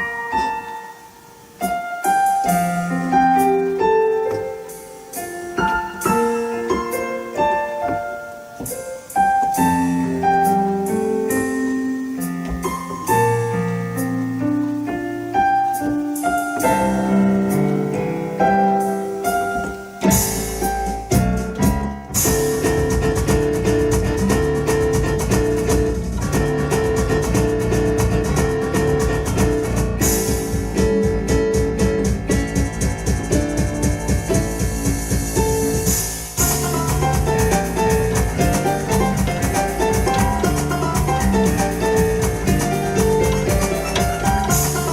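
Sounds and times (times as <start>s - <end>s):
electronic organ in piano voice: 0.0s - 44.9s
drums and bass dance groove: 4.4s - 44.9s.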